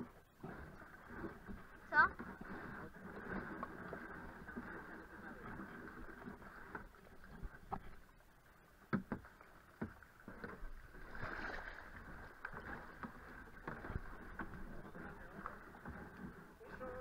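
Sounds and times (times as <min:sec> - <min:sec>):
paddles splashing in water: 0:00.0 - 0:17.0.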